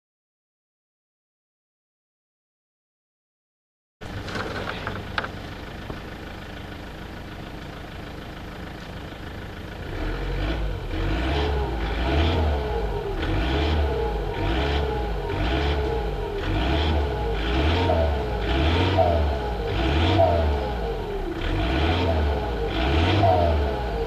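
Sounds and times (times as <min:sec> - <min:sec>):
diesel engine idling and revving: 0:04.0 - 0:24.0.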